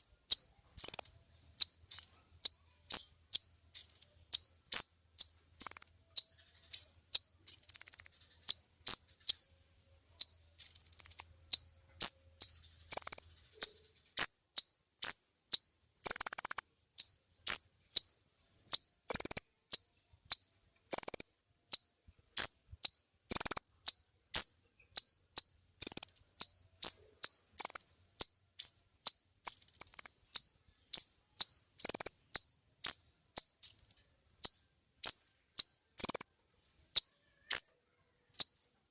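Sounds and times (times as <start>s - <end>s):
sunbird chirping: 0.0s - 38.9s.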